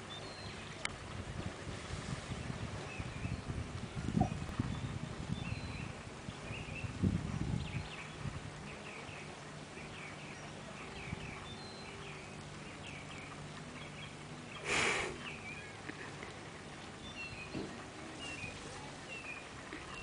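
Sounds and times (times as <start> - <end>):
small birds chirping: 2.8 - 20.0.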